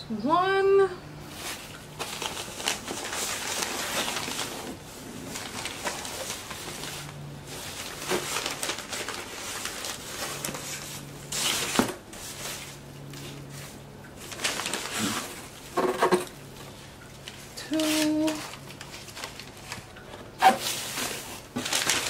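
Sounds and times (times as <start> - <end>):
packing paper rustling: 1.2 - 22.0.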